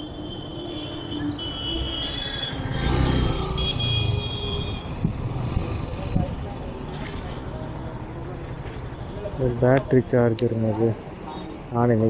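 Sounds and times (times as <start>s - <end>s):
vehicle engine rumbling: 1.2s - 11.3s.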